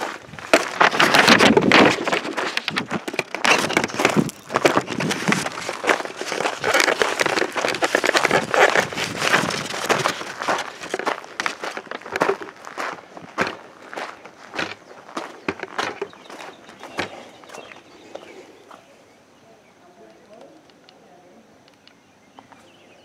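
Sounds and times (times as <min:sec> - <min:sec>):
footsteps crunching on gravel: 0:00.0 - 0:19.0.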